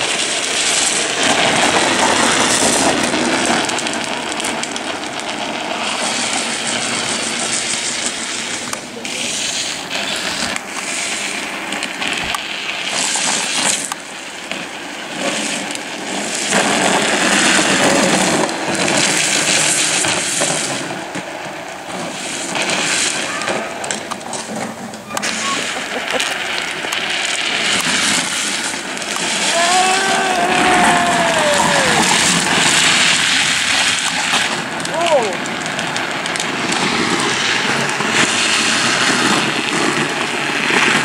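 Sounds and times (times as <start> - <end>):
plastic wheels scraping on asphalt: 0.0 - 41.0.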